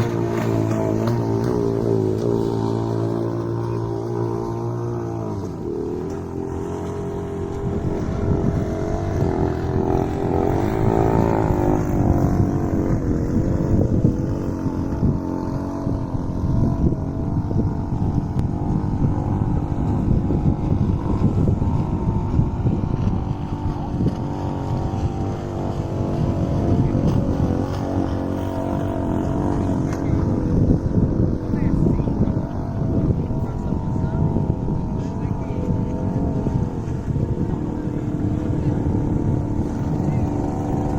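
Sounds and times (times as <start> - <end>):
model boat engine: 0.0 - 40.9
wind buffeting microphone: 0.0 - 40.9.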